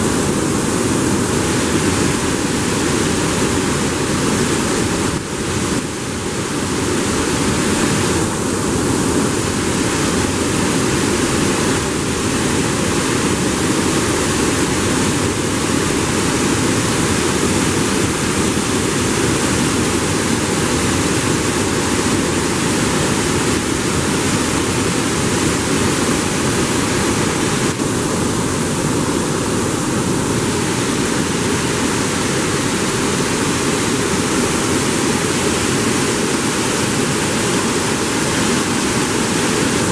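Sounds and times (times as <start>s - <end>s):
water rushing through sluice gate: 0.0s - 39.9s.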